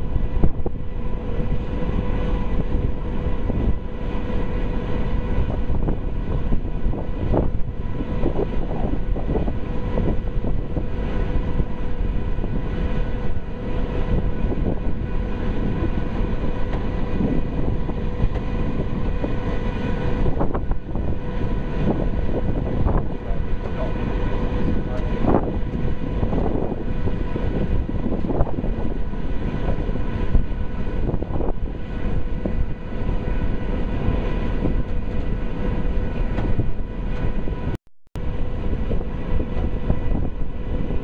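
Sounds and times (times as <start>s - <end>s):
ferry engines droning: 0.0s - 41.0s
wind and water rushing: 0.0s - 41.0s.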